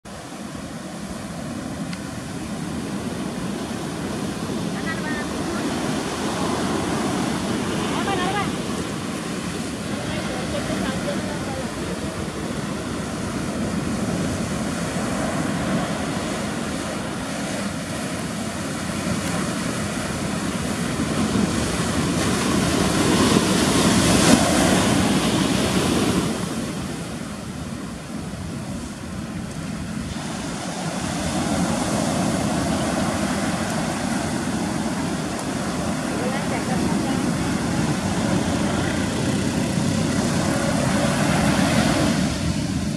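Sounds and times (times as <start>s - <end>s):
surf breaking on beach: 0.0s - 42.9s.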